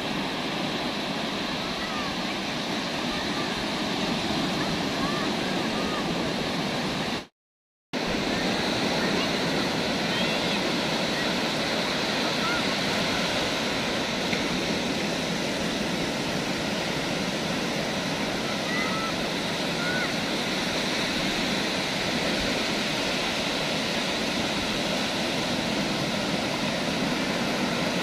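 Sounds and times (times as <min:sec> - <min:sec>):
waves breaking on beach: 0:00.0 - 0:07.3, 0:08.0 - 0:28.0.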